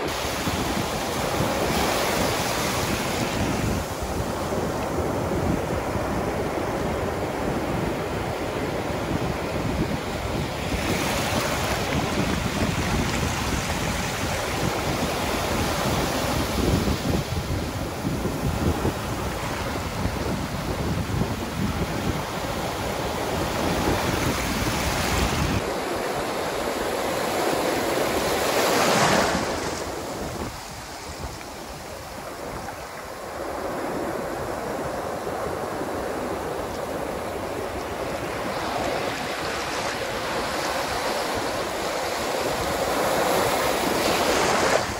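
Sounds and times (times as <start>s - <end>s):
waves breaking on sand: 0.0s - 44.9s.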